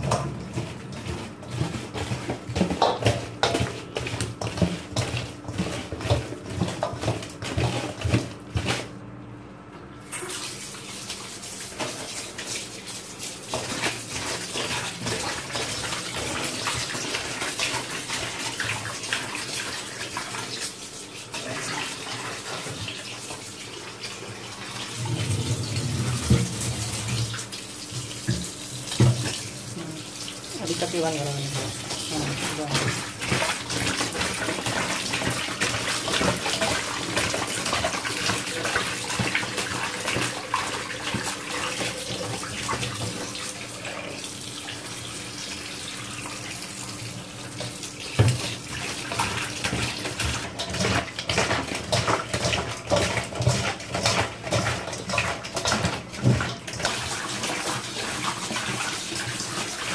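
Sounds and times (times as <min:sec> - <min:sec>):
kitchen tap running: 0:00.0 - 0:08.9, 0:10.0 - 0:59.9.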